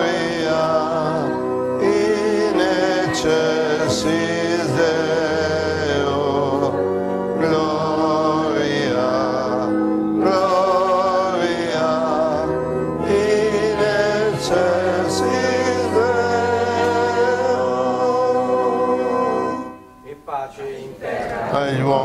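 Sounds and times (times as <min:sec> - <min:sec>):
voices singing liturgical chant: 0:00.0 - 0:19.8, 0:20.4 - 0:22.0
sustained keyboard chords: 0:00.0 - 0:20.7.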